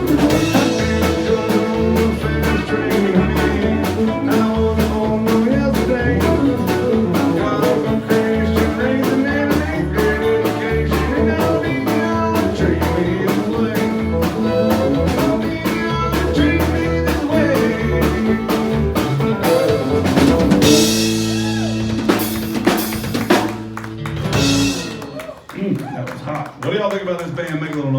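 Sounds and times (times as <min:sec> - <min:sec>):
country band playing: 0:00.0 - 0:25.7.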